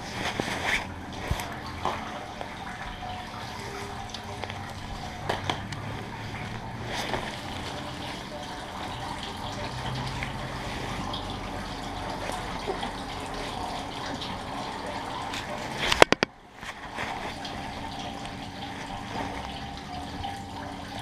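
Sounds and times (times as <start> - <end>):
water running and splashing: 0.0 - 21.0.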